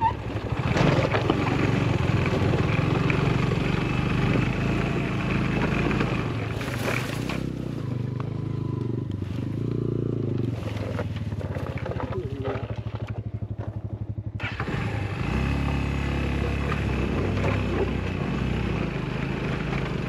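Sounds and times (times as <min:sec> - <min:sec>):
motorcycle engine running and idling: 0:00.0 - 0:20.0.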